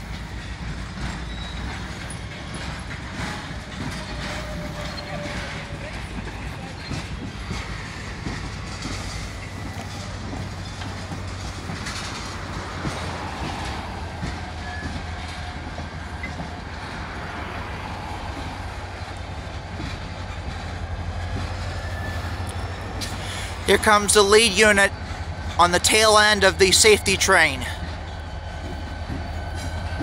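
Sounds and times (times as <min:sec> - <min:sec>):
low train rumble: 0:00.0 - 0:30.0
train wheels clicking over rail joints: 0:00.0 - 0:30.0.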